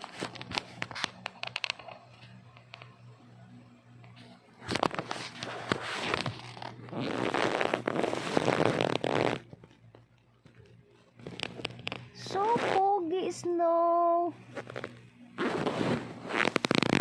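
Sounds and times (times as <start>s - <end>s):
rustling crackling with sharp clicks: 0.0s - 3.3s, 3.9s - 13.3s, 14.4s - 17.0s.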